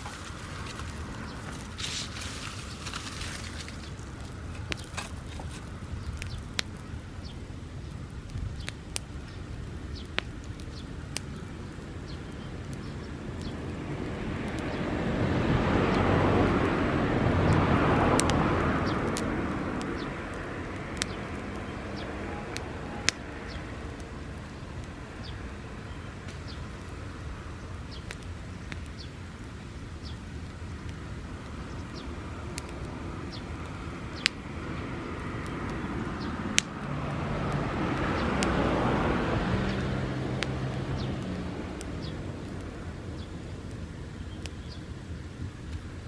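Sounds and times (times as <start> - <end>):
broad rushing noise: 0.0 - 46.0
dry grass fire crackling: 0.0 - 46.0.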